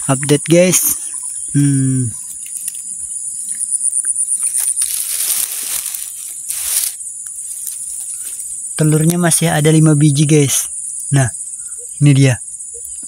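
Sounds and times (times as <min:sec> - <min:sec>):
grass and leaves rustling: 0:00.0 - 0:10.6
insects chirring high-pitched: 0:00.0 - 0:13.0.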